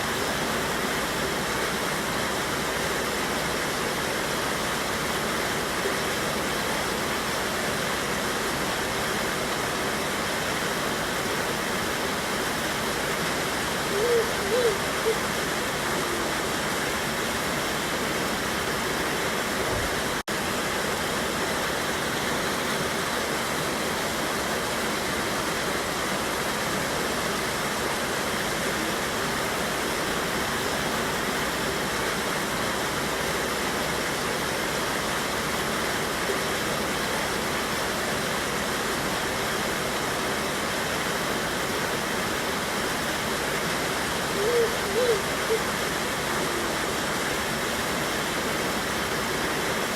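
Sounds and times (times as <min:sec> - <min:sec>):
waterfall rushing over rocks: 0:00.0 - 0:49.9.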